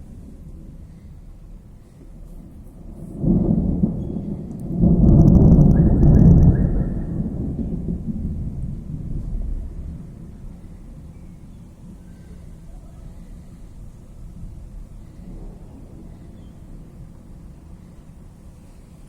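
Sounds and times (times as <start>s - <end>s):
thunder crack and rumble: 0.0s - 19.0s.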